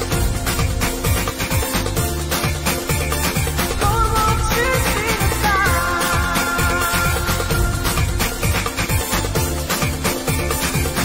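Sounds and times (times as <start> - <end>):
upbeat pop music: 0.0 - 11.0.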